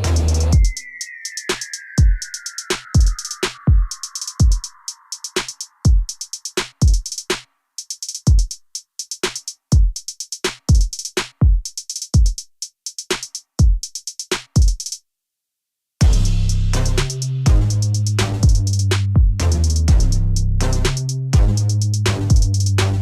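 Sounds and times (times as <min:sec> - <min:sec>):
drum-machine beat: 0:00.0 - 0:15.0, 0:16.0 - 0:23.0.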